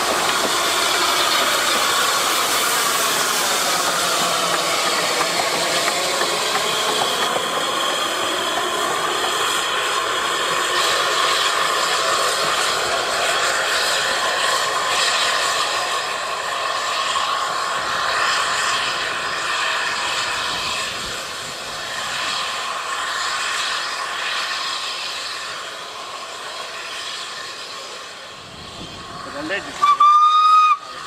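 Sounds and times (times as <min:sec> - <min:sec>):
steam train rushing along track: 0:00.0 - 0:31.0.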